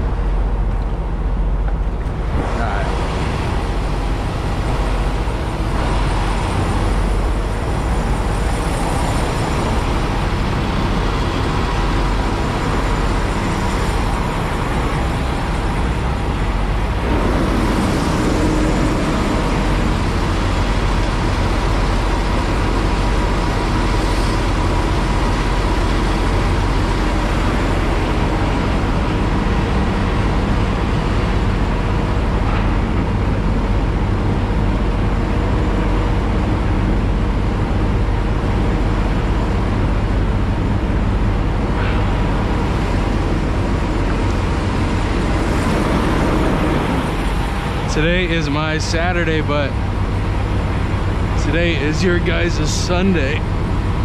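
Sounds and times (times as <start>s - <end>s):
heavy vehicle engines rumbling: 0.0s - 54.0s.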